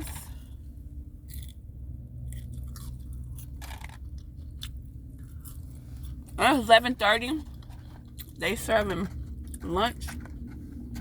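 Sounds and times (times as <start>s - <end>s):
low steady hum: 0.0s - 11.0s
chewing french fries: 1.2s - 11.0s.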